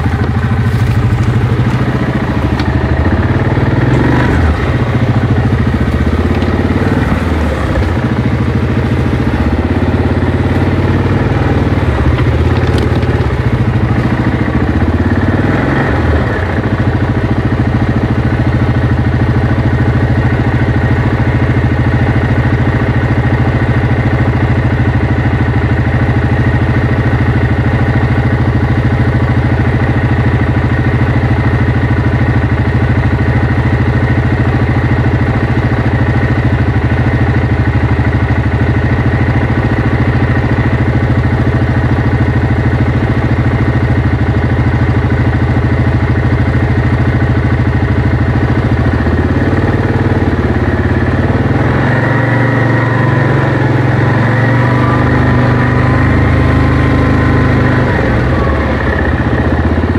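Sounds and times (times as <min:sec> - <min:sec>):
atv engine idling: 0:00.0 - 0:59.9.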